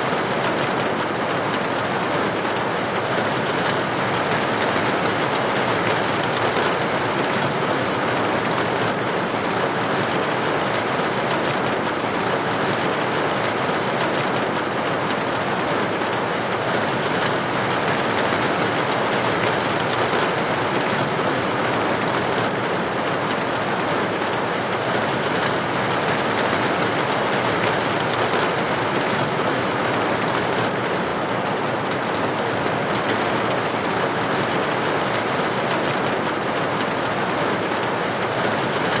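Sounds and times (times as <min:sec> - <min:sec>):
rain on a window pane: 0:00.0 - 0:39.0.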